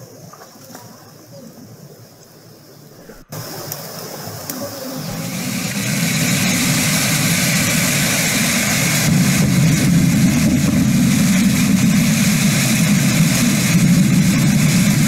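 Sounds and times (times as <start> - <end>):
floodwater rushing: 2.9 - 15.0.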